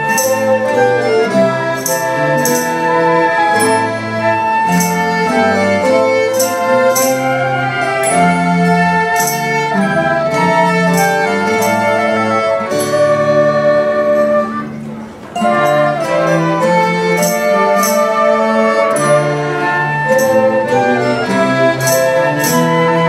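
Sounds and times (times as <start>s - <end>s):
ensemble of strings and flutes: 0.0s - 23.0s.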